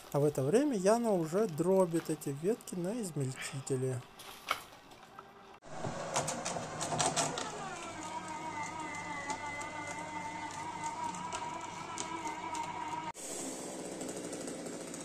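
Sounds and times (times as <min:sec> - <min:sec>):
branches cracking in shredder: 0:00.0 - 0:03.4, 0:05.7 - 0:15.0
garden shredder whine: 0:00.0 - 0:03.9, 0:05.6 - 0:15.0.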